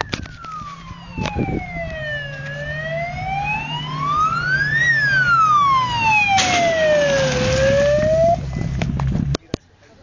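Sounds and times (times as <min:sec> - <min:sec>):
siren wailing: 0:00.0 - 0:08.5
car engine: 0:00.0 - 0:09.4
road noise rush: 0:00.0 - 0:10.0.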